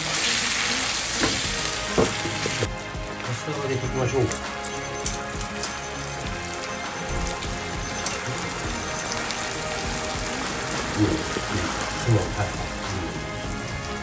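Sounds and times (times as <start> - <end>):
background music: 0.0 - 14.0
food sizzling on stove: 0.0 - 14.0.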